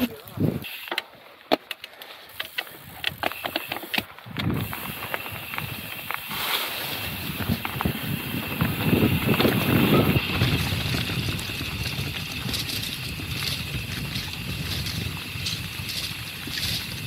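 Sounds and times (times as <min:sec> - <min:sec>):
bike rattling over bumps: 0:00.0 - 0:17.0
tyres rolling over loose ground: 0:00.0 - 0:17.0.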